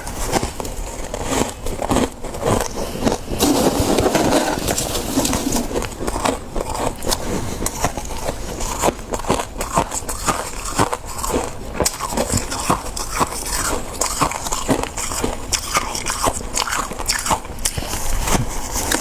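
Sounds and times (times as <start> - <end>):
crunching and chewing frost: 0.0 - 19.0.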